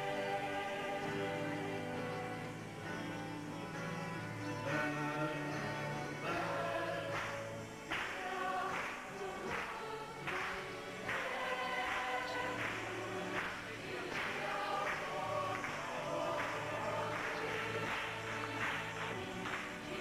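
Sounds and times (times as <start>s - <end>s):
group singing religious song: 0.0s - 20.0s.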